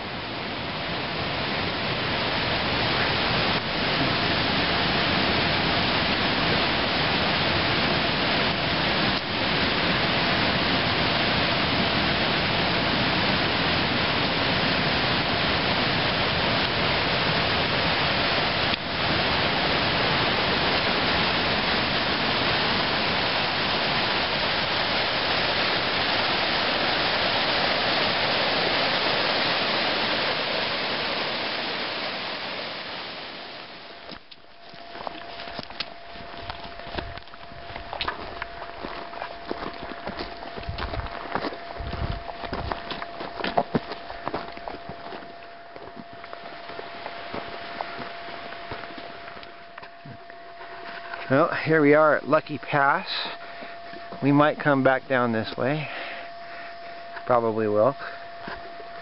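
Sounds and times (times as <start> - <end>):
creek rushing over rocks: 0.7 - 45.4, 46.0 - 49.5.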